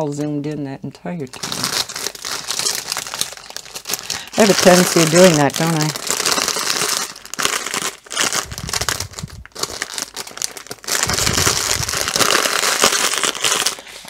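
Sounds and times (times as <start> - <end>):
plastic bag crinkling: 1.3 - 14.0.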